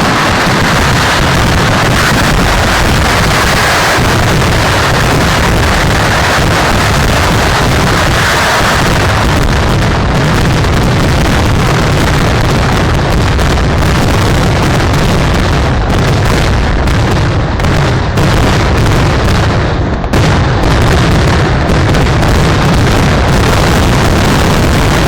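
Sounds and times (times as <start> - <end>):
firework explosions: 0.0 - 25.0.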